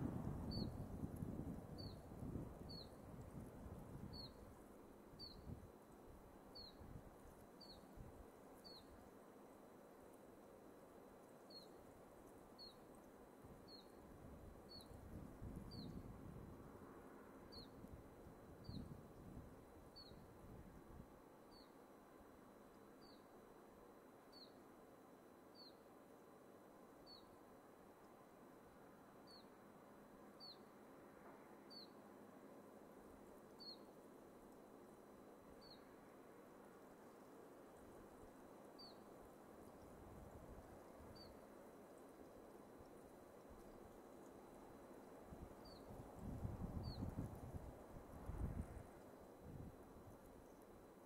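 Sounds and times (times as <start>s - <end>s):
wind in pine trees: 0.0s - 51.0s.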